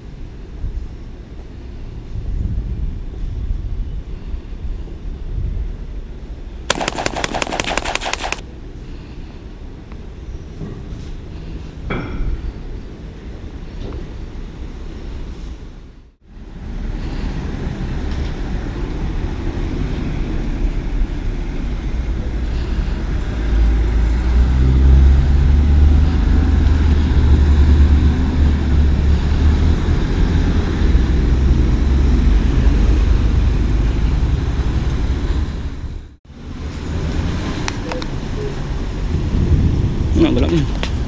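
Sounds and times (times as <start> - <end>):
moving vehicle rumble: 0.0 - 41.0.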